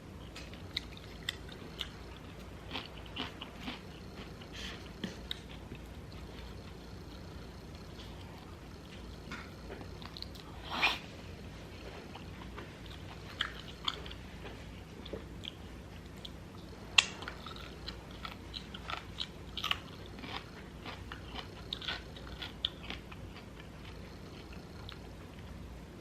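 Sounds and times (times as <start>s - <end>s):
person chewing crunchy food: 0.2s - 11.0s, 11.8s - 25.5s.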